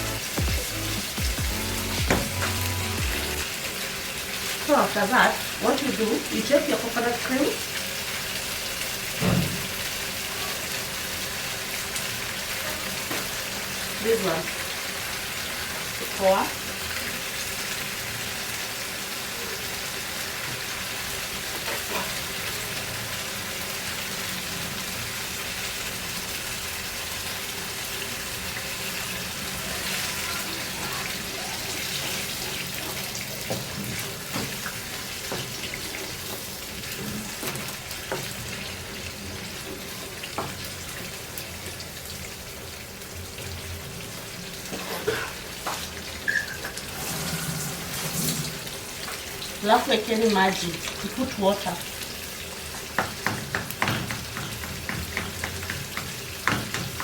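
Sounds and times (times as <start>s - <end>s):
sauce simmering and sizzling: 0.0s - 57.0s.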